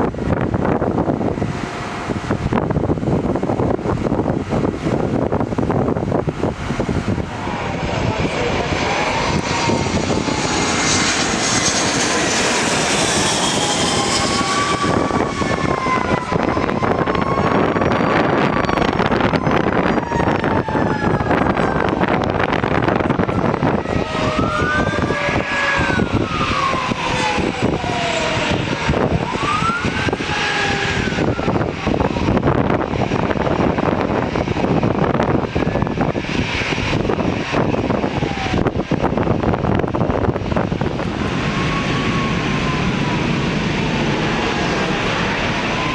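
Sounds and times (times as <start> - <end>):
jet airliner passing: 0.0 - 45.9.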